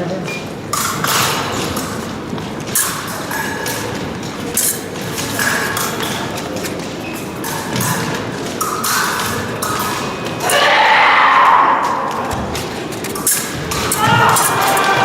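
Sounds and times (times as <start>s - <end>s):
blades clicking and ringing: 0.1s - 15.0s
fencers' footwork thuds: 0.5s - 10.7s, 11.3s - 15.0s.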